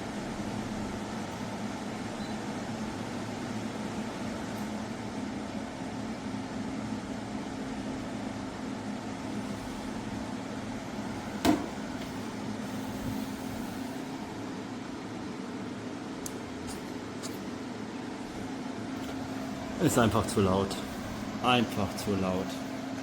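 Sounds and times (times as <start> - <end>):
air conditioner fan whooshing: 0.0 - 23.0.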